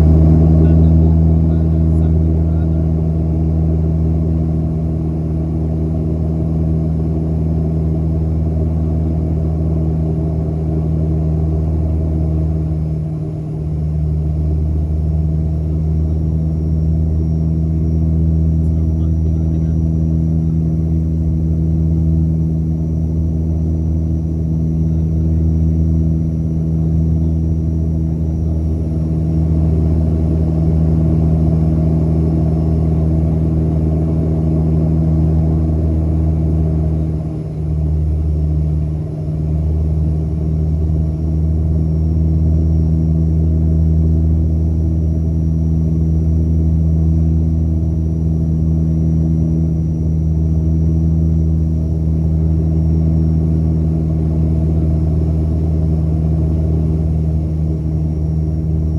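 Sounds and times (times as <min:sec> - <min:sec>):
turboprop engines droning: 0:00.0 - 0:58.9
faint high whine: 0:06.2 - 0:58.9.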